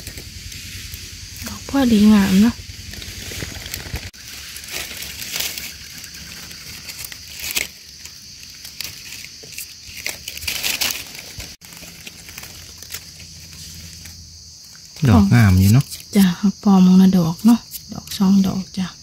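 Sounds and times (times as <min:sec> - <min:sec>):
dry leaves rustling and crackling: 0:00.0 - 0:16.2.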